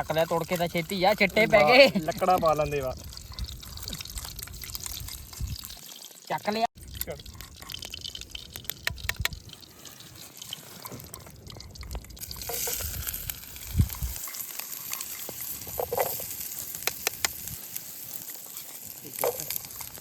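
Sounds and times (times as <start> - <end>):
campfire crackles: 0.0 - 20.0
hot ghee sizzling and spattering: 0.0 - 20.0.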